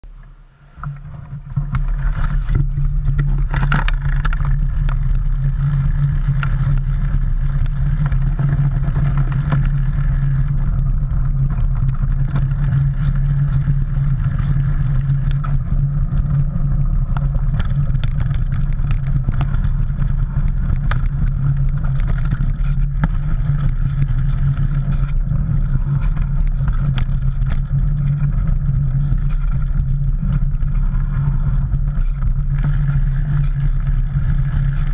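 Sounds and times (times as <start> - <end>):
bike tyres rumbling on trail: 0.0 - 34.9
wind on microphone: 0.0 - 34.9
bike clicks and rattles: 0.2 - 34.9.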